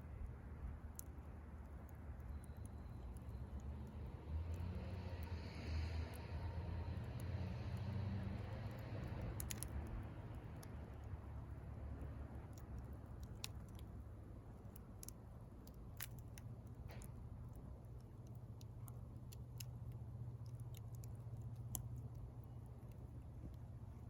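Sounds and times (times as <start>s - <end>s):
wood bonfire crackling: 0.0s - 24.0s.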